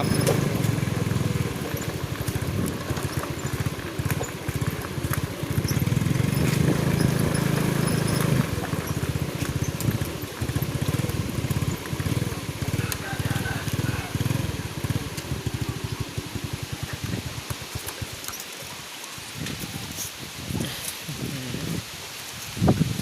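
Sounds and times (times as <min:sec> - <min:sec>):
wind buffeting microphone: 0:00.0 - 0:18.2, 0:19.2 - 0:23.0.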